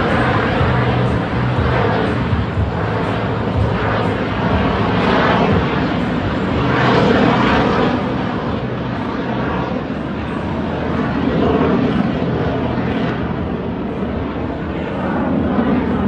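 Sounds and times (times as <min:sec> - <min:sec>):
fighter jet flying past: 0:00.0 - 0:16.0.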